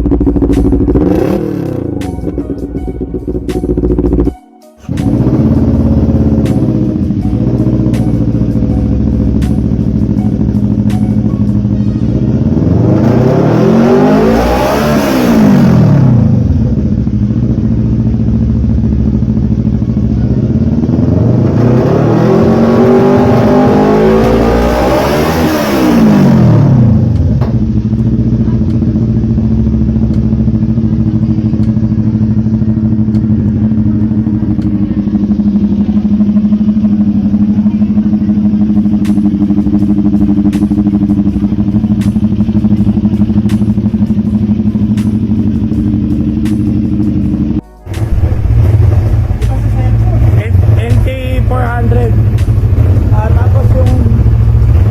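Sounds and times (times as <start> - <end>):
motorcycle engine revving and idling: 0.0 - 54.9.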